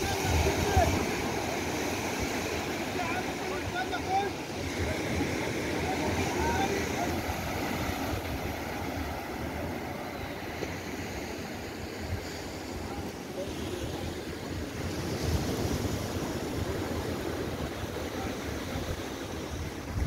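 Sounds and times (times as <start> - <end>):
waves washing onto beach: 0.0 - 20.0
wind rumbling on microphone: 0.0 - 20.0.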